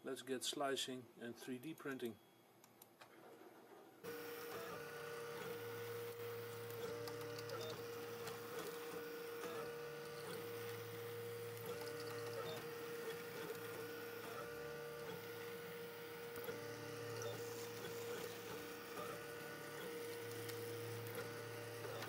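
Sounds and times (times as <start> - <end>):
stepper motors whining: 4.1 - 22.0.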